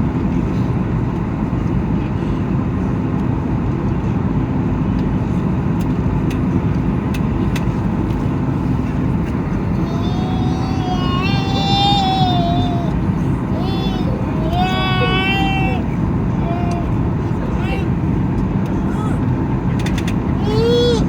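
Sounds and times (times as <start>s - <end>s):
airplane cabin engine roar: 0.0s - 21.0s.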